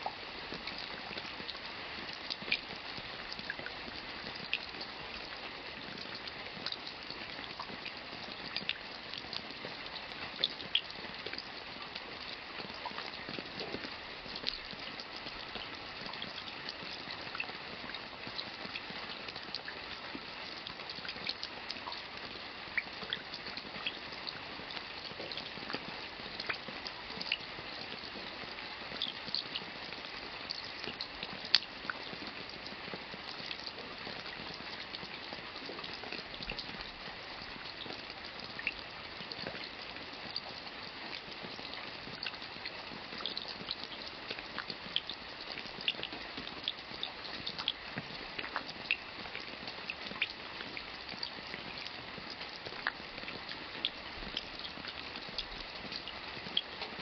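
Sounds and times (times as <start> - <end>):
raindrops ticking and splashing: 0.0 - 57.0
steady rain hiss: 0.0 - 57.0.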